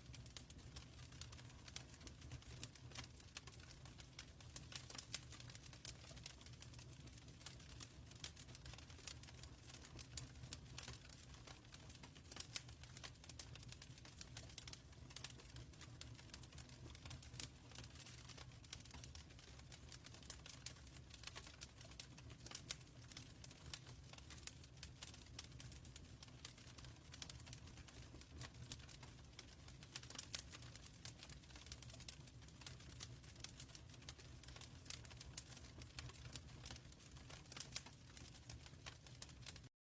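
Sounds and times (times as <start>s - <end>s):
wood fire crackling: 0.0s - 39.7s.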